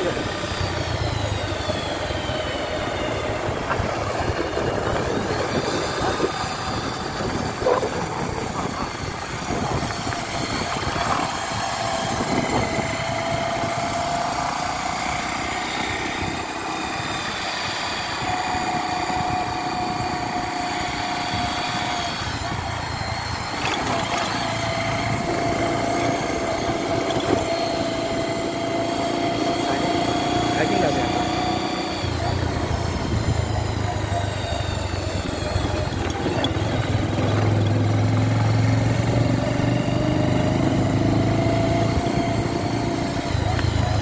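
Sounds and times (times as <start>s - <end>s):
road noise: 0.0s - 44.0s
vehicle engine running: 0.0s - 44.0s
wind: 0.0s - 44.0s.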